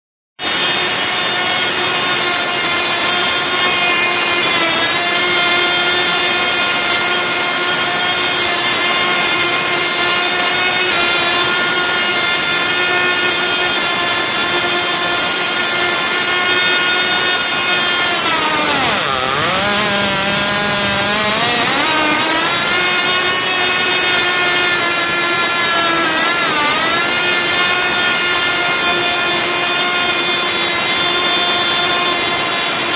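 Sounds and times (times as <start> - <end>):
model glow engine buzzing: 0.4 - 32.9.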